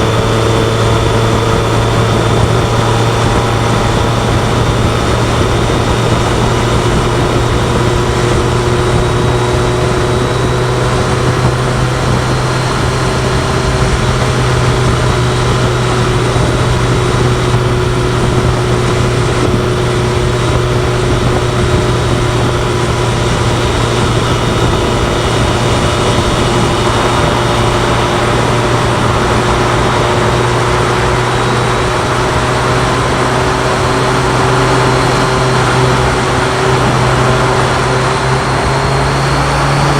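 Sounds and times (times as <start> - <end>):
motorcycle engine droning: 0.0 - 39.9
wind and road noise: 0.0 - 39.9.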